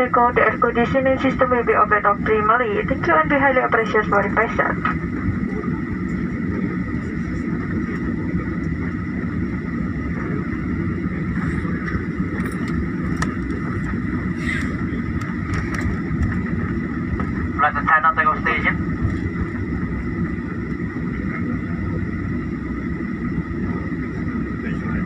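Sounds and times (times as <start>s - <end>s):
jet engines whining: 0.0s - 25.0s.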